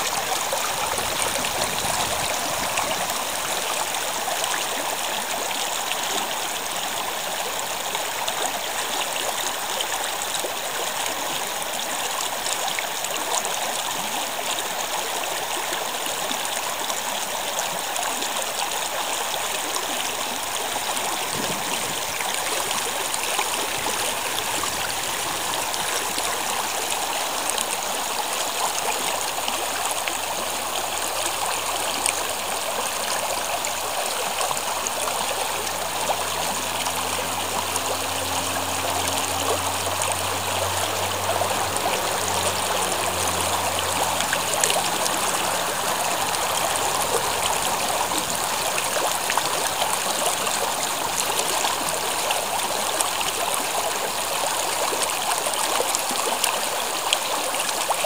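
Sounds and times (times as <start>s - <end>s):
stream running over stones: 0.0s - 58.0s.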